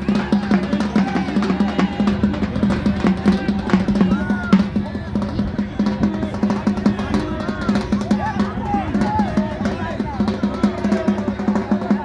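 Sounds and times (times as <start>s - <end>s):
fast steady drumming: 0.0s - 12.0s.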